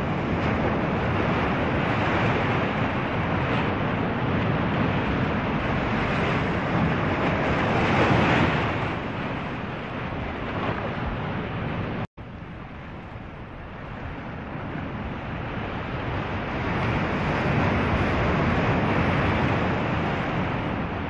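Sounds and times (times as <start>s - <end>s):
open water rushing: 0.0s - 21.0s
wind: 0.0s - 21.0s.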